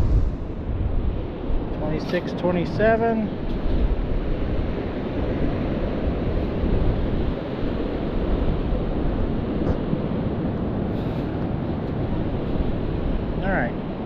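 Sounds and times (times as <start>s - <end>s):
surf washing: 0.0s - 14.0s
wind rumbling on microphone: 0.0s - 14.0s.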